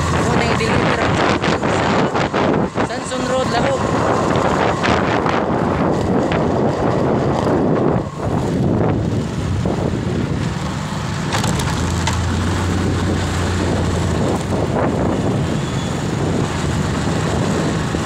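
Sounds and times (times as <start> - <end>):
motorcycle engine running: 0.0 - 18.0
road noise: 0.0 - 18.0
wind rush: 0.0 - 18.0.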